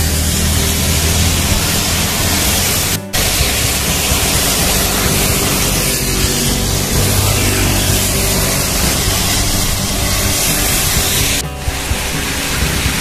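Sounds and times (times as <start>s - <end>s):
rain and wet road spray: 0.0s - 11.4s.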